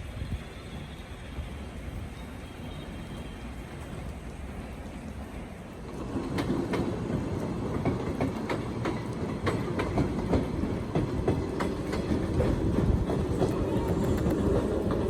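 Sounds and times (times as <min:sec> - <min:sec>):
train rumbling: 0:00.0 - 0:15.0
train wheels clicking on rail joints: 0:00.1 - 0:15.0.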